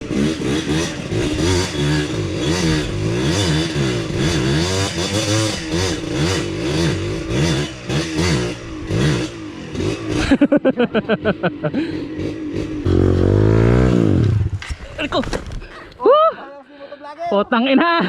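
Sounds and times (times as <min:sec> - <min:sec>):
motorbike engine revving: 0:00.0 - 0:14.9.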